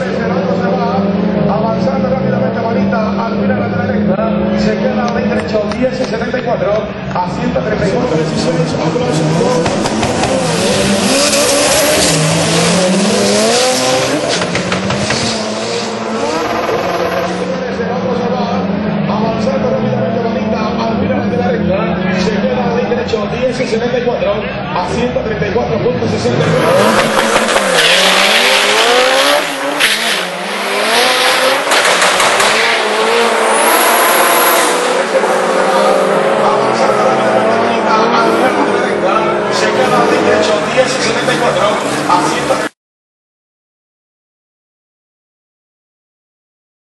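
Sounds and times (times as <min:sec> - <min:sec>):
car engine running hard: 0:00.0 - 0:42.7.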